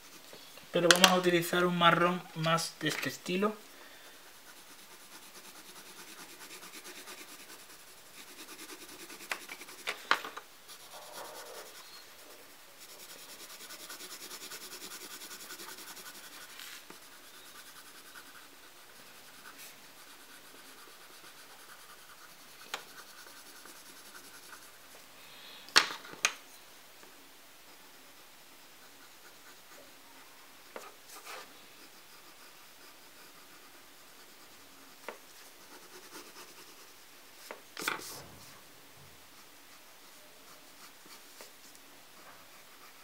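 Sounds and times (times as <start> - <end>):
pencil scratching on paper: 0.0 - 25.0, 28.6 - 38.5, 39.2 - 43.0.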